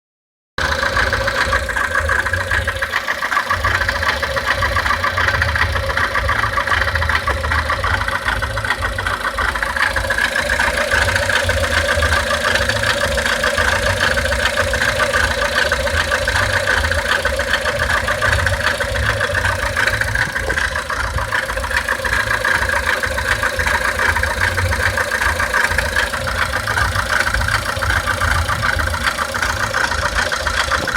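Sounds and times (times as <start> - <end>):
car engine idling: 0.6 - 30.9.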